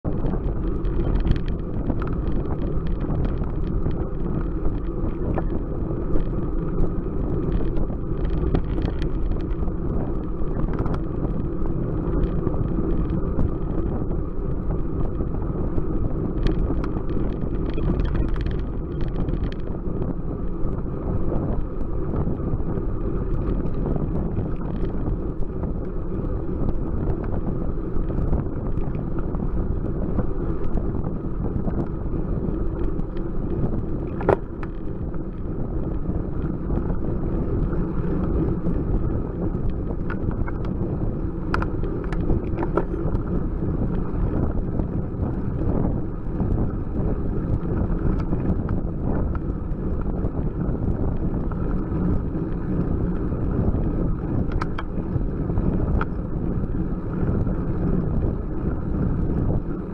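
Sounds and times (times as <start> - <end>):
low road rumble: 0.0 - 59.9
wind rushing over microphone: 0.0 - 59.9
small clicks and rattles: 0.1 - 56.2.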